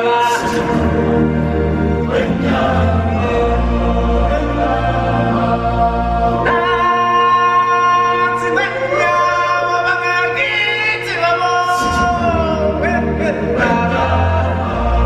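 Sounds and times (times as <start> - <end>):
backing track: 0.0 - 15.0
choir voices: 0.0 - 15.0.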